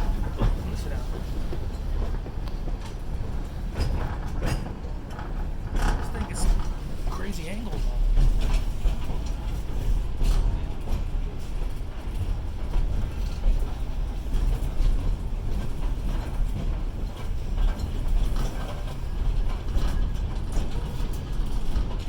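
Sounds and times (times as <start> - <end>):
train rumble inside car: 0.0 - 22.0.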